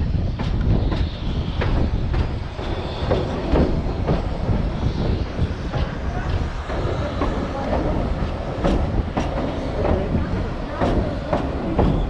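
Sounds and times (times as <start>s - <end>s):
rail joint clicks: 0.0s - 12.0s
train wheels rumbling on rails: 0.0s - 12.0s.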